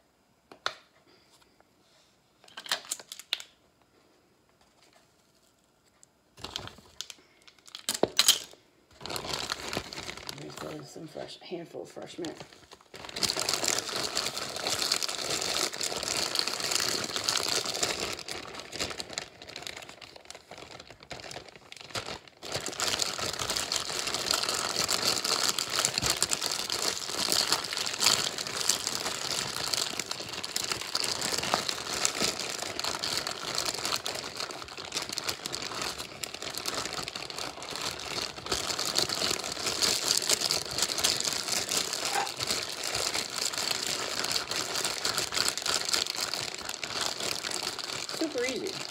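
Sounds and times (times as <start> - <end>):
plastic bag crinkling: 2.4 - 3.6, 4.8 - 48.9.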